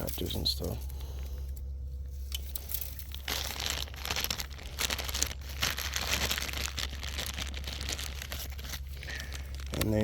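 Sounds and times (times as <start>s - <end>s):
dry crinkling and crunching: 0.0s - 10.0s.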